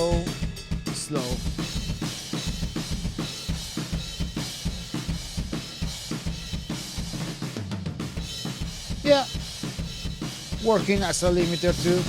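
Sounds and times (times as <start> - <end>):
drum kit playing fast beat: 0.0 - 12.0.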